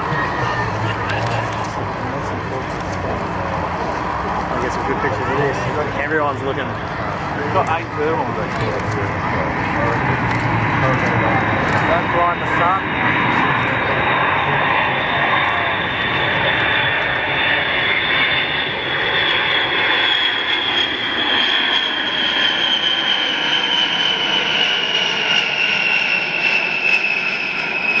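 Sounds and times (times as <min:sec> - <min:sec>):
jet bomber flyby: 0:00.0 - 0:28.0.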